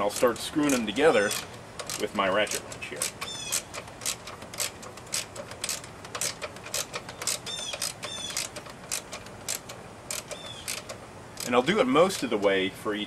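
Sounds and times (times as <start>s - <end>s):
ratchet wrench clicking: 0.0s - 12.5s.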